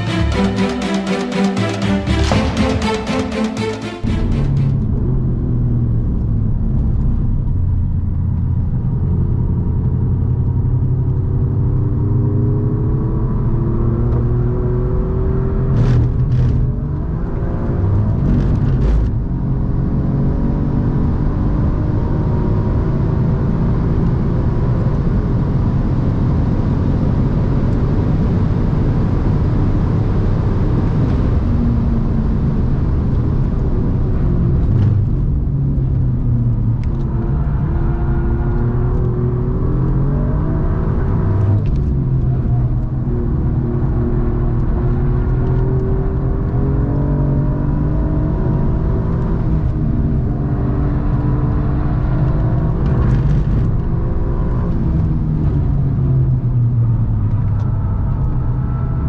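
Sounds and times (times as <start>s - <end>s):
road and tyre rumble: 4.1s - 59.0s.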